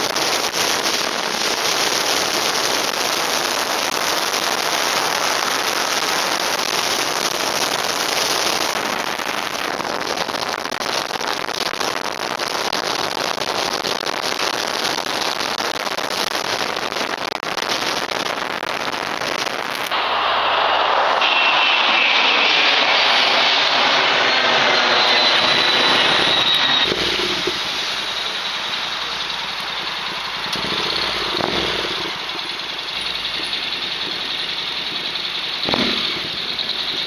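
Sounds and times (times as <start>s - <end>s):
steady narrow rushing noise: 0.0s - 37.0s.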